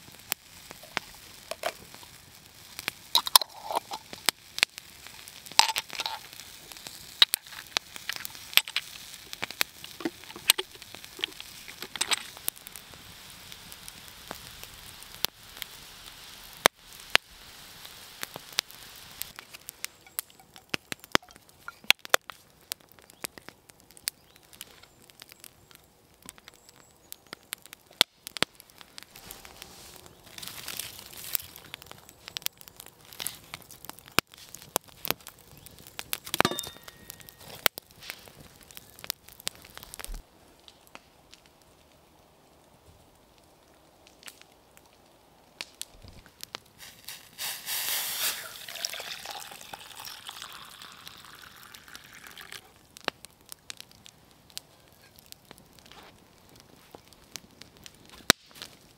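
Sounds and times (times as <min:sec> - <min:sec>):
faint hiss: 0:00.0 - 0:26.0, 0:26.6 - 0:58.9
wood fire crackling: 0:00.0 - 0:58.9.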